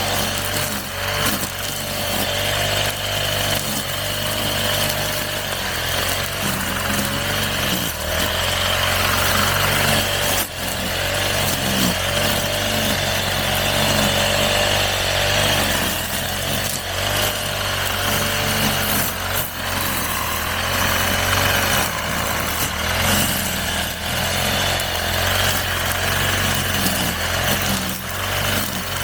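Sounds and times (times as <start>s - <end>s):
brush cutter engine running: 0.0s - 29.0s.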